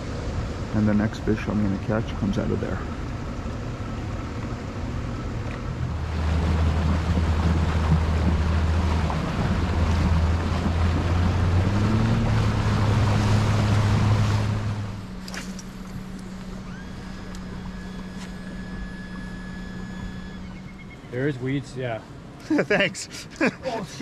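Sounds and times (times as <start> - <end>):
outboard motor running: 0.0 - 24.0
water noise: 0.0 - 24.0
wind: 0.0 - 24.0.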